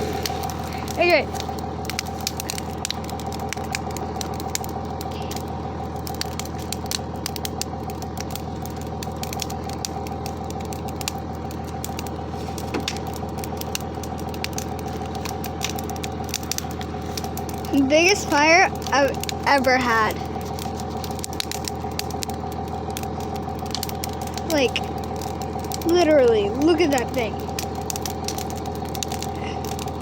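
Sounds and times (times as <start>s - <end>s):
bonfire crackling: 0.0s - 30.0s
burning wood pops and snaps: 0.0s - 30.0s
steady hum: 0.0s - 30.0s.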